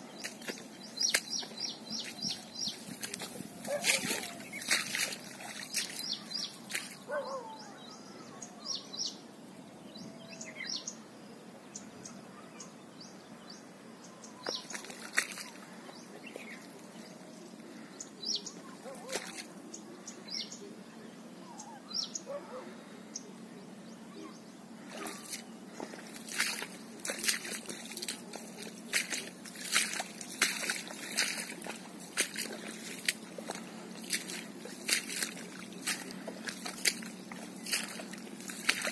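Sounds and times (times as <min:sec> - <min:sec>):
birds chirping and calling: 0:00.0 - 0:09.1, 0:14.1 - 0:38.9.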